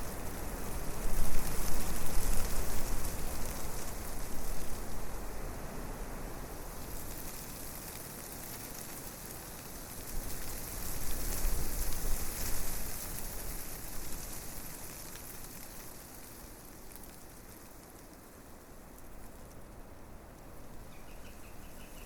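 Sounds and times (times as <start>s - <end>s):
wind rustling leaves: 0.0s - 22.0s.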